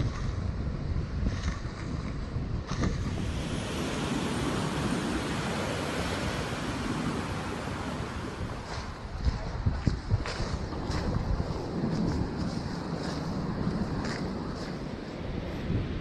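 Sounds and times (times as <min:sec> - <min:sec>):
wind buffeting microphone: 0:00.0 - 0:16.0
surf breaking on beach: 0:01.6 - 0:16.0.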